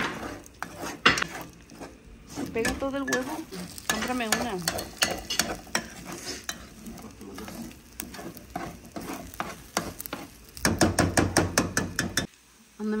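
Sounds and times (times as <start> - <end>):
utensil scraping a pot: 0.0 - 12.3
eggs sizzling: 0.0 - 13.0.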